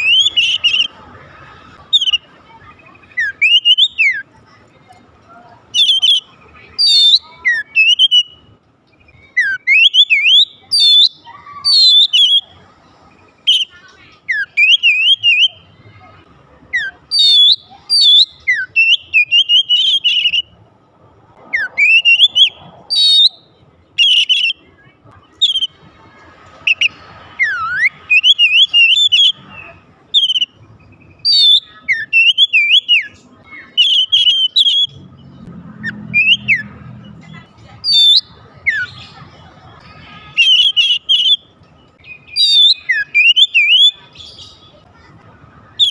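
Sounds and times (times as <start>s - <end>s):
bird singing whistles and chatter: 0.0s - 20.6s, 21.4s - 45.9s.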